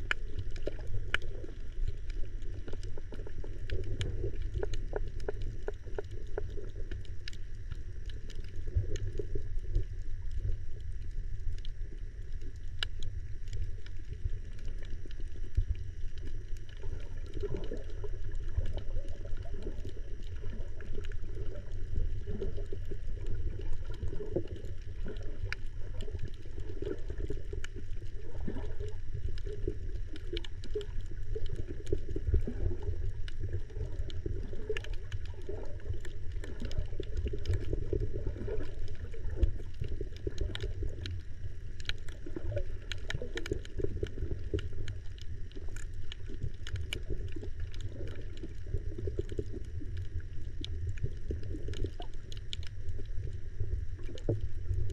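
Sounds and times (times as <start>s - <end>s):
crackling clicks: 0.0s - 54.9s
muffled underwater rumble: 0.0s - 54.9s.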